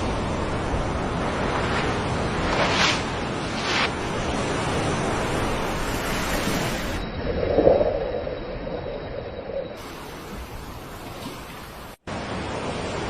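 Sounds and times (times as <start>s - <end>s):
ocean waves washing: 0.0s - 13.0s.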